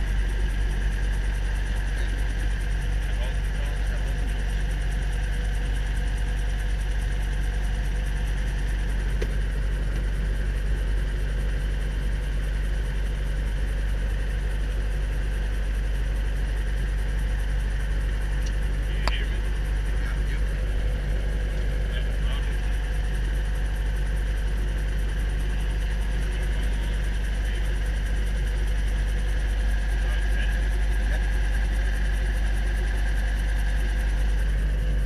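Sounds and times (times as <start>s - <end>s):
helicopter engine and rotor running: 0.0s - 35.0s.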